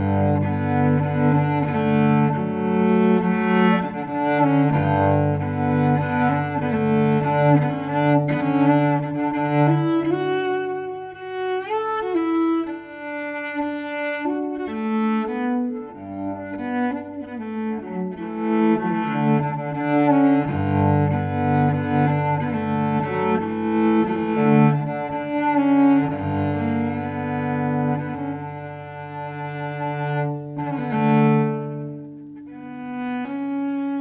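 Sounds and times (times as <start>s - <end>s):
solo cello playing: 0.0s - 34.0s.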